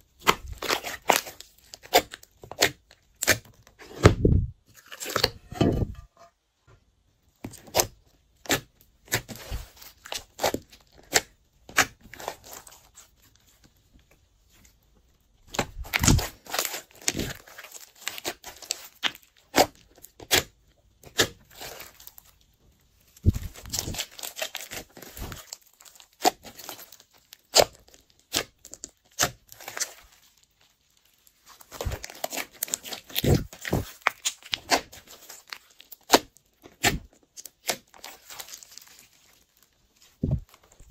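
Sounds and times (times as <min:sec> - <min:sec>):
hands squishing slime: 0:00.1 - 0:05.7, 0:07.4 - 0:13.9, 0:15.4 - 0:22.4, 0:23.0 - 0:40.9.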